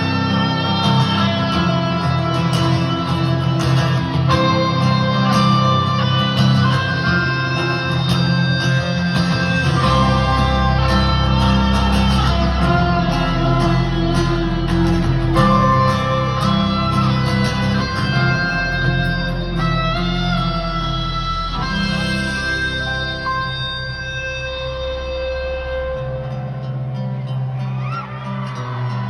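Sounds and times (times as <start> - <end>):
deep bass: 0.0 - 27.9
live band with guitar: 0.0 - 29.0.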